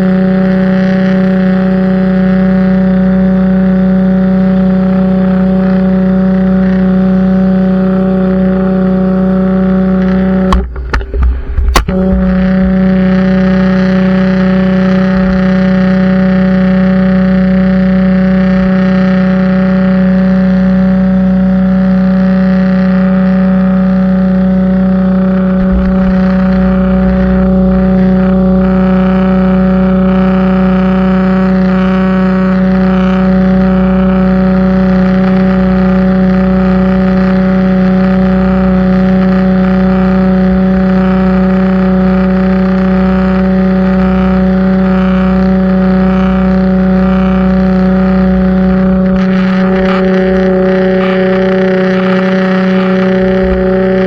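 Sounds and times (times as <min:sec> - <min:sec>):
pressure washer running: 0:00.0 - 0:54.0.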